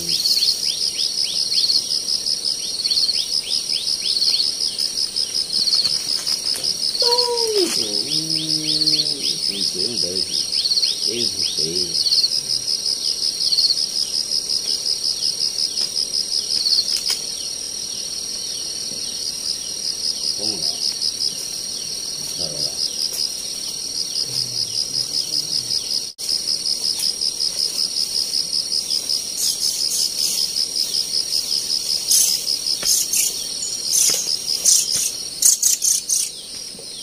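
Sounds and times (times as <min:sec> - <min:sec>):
insect trill: 0:00.0 - 0:37.0.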